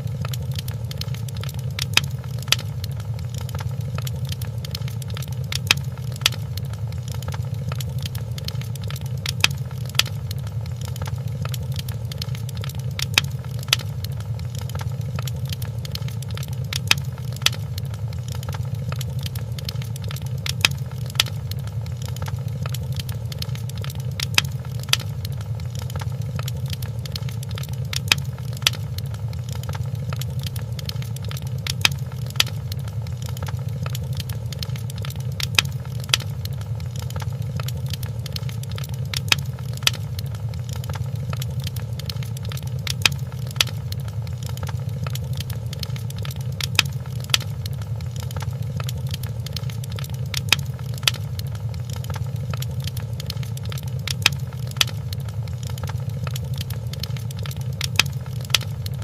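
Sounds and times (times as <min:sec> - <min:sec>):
sharp fire pops: 0:00.0 - 0:59.0
wood fire crackling: 0:00.0 - 0:59.0.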